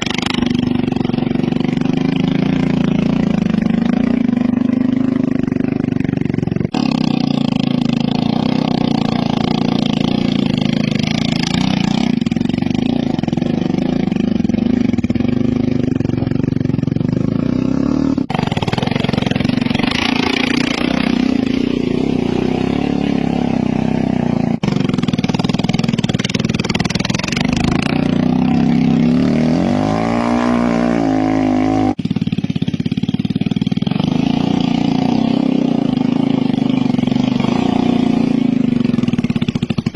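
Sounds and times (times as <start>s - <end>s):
motorcycle engine revving: 0.0s - 39.9s
motorcycle engines running hard: 0.0s - 39.9s.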